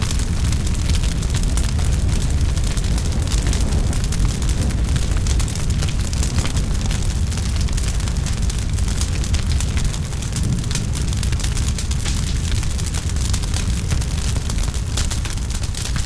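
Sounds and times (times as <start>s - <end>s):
burning wood crackling and popping: 0.0s - 16.0s
rumble of flames: 0.0s - 16.0s.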